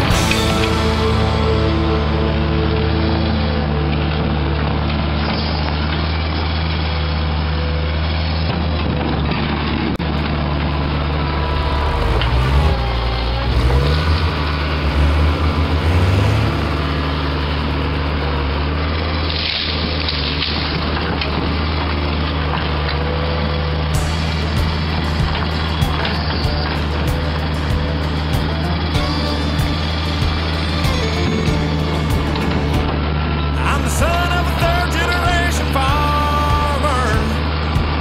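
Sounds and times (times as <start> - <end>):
loader engine running and revving: 0.0 - 38.0.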